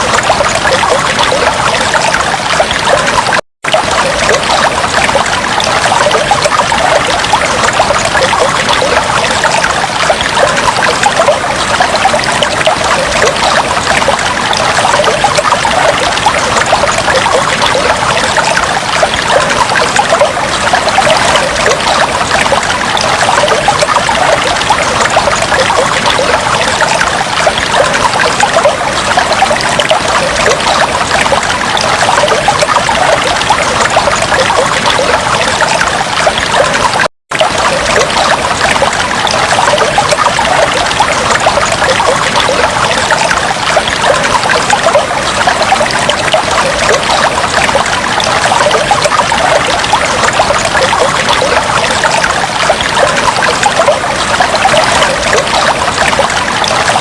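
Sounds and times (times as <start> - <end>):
aquarium water trickling and bubbling: 0.0 - 57.0.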